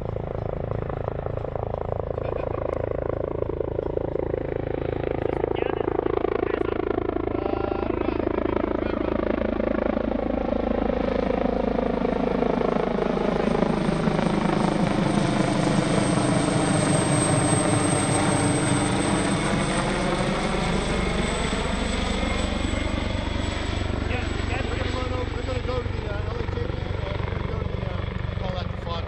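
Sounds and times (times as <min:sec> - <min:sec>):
helicopter rotor beat: 0:00.0 - 0:29.0
high thin turbine whine: 0:00.0 - 0:29.0.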